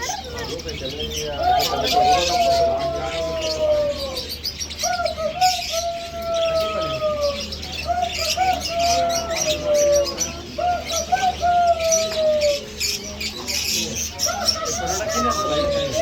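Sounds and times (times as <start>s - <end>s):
small birds twittering: 0.0s - 16.0s.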